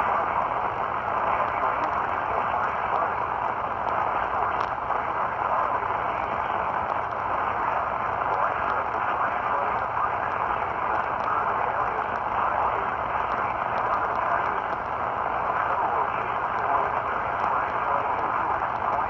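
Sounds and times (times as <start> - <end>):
faint crackles: 0.0 - 19.0
radio static hiss: 0.0 - 19.0.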